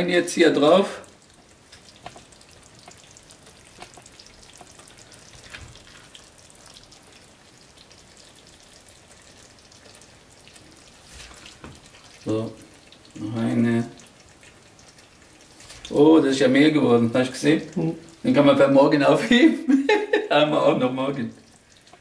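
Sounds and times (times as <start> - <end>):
sauce sizzling in a pan: 0.0 - 22.0.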